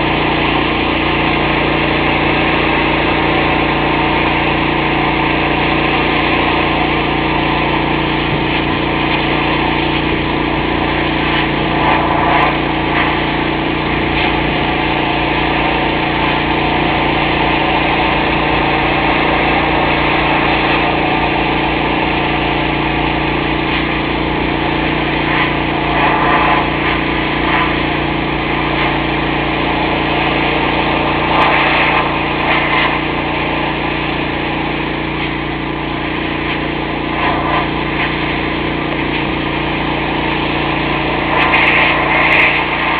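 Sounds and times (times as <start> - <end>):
pressure washer engine running: 0.0 - 42.9.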